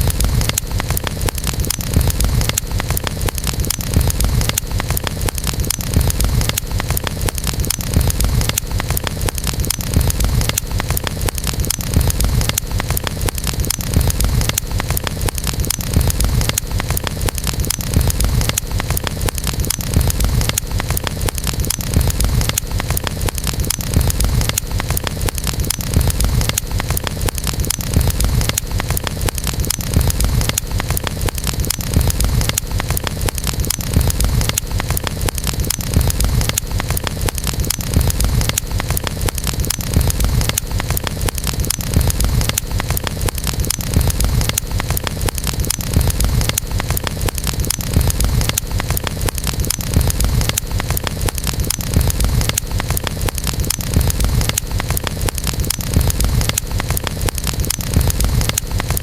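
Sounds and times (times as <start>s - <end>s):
campfire crackling and popping: 0.0s - 59.0s
fire rumble and hiss: 0.0s - 59.0s.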